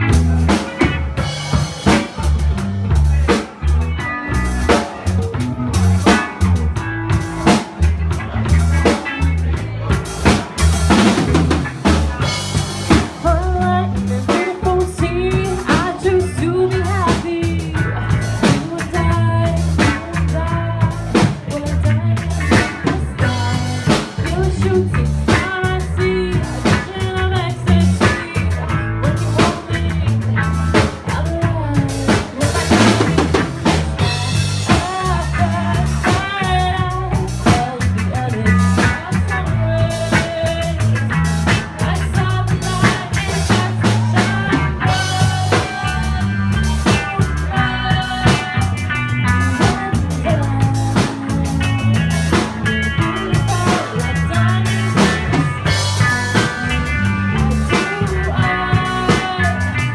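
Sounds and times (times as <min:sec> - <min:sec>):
drum rimshots: 0:00.0 - 0:59.9
live rock band playing: 0:00.0 - 0:59.9.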